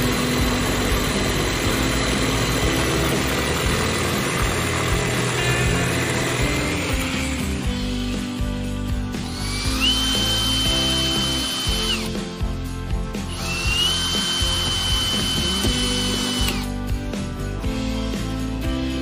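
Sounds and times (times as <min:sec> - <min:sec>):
reciprocating saw whining: 0:00.0 - 0:12.4, 0:13.2 - 0:16.8
background music: 0:00.0 - 0:19.0.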